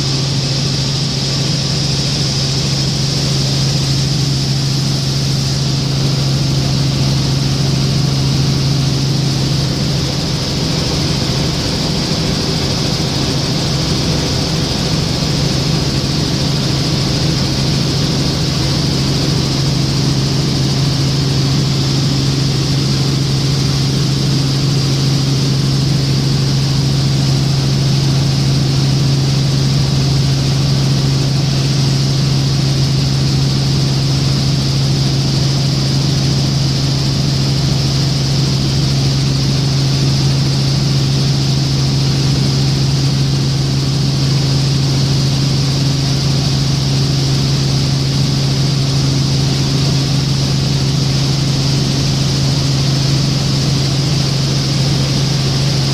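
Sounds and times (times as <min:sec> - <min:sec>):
helicopter rotor drone: 0:00.0 - 0:55.9.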